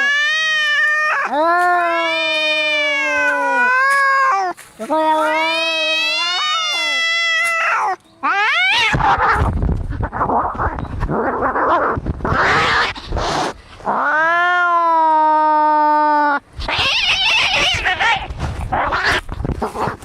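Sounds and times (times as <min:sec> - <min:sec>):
cat yowling: 0:00.0 - 0:10.2, 0:12.3 - 0:19.3
cats hissing and growling: 0:00.0 - 0:20.0
cats screeching: 0:00.0 - 0:20.0.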